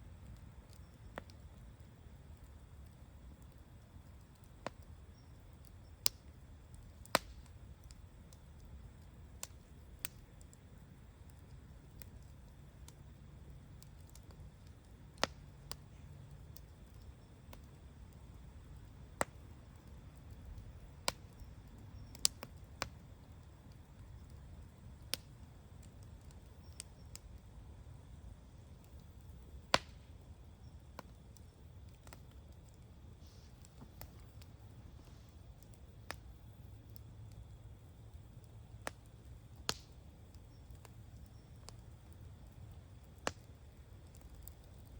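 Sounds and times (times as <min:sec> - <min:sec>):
bonfire crackling: 0:00.0 - 0:44.9.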